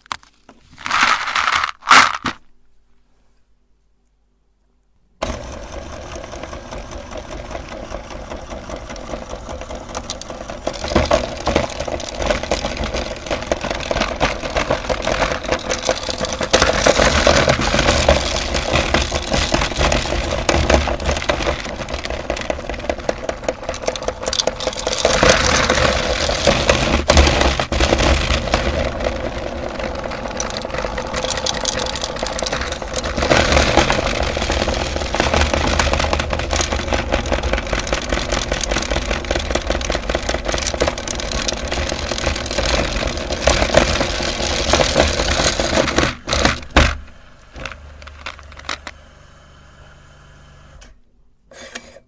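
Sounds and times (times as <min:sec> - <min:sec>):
candy cracking and rattling: 0:00.0 - 0:02.5, 0:08.2 - 0:49.0
meat grinder motor hum: 0:05.2 - 0:50.9.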